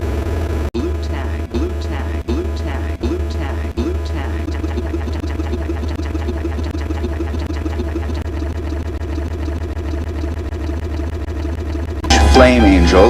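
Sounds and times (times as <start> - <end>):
idling engine drone: 0.0 - 13.0.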